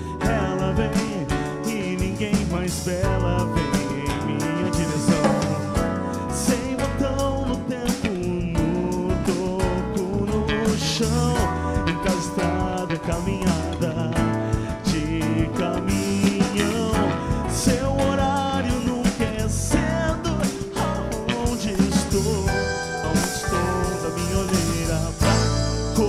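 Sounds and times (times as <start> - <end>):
drum kit: 0.0 - 26.0
electric bass: 0.0 - 26.0
keyboard piano: 0.0 - 26.0
man singing: 0.0 - 26.0.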